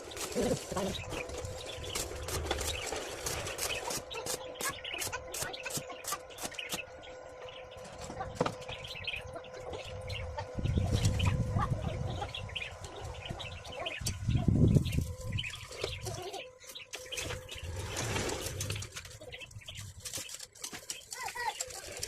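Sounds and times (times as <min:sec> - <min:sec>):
steady hum: 0:00.0 - 0:21.1
birds chirping: 0:00.0 - 0:22.0.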